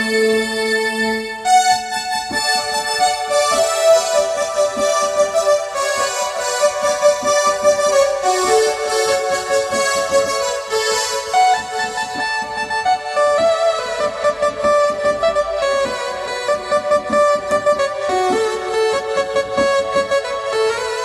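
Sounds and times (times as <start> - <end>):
held synthesizer chords: 0.0 - 21.0
light beat: 1.4 - 21.0
electric piano melody: 1.6 - 21.0.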